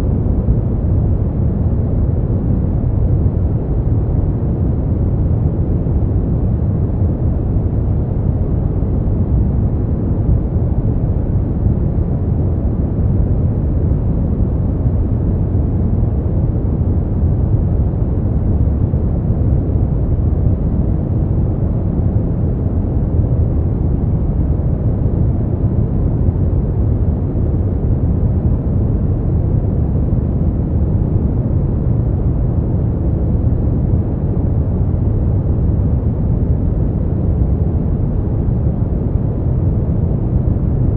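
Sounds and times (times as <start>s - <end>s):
brown noise rumble: 0.0s - 40.9s.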